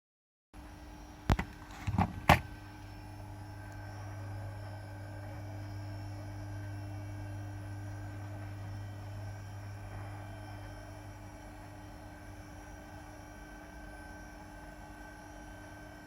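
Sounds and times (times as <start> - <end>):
electrical hum: 0.6 - 16.0.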